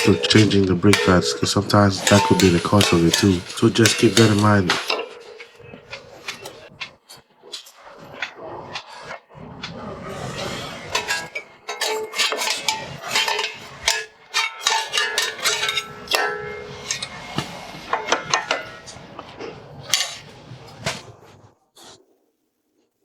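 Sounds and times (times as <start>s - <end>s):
metal tools clanking: 0.0s - 8.9s, 9.6s - 21.0s.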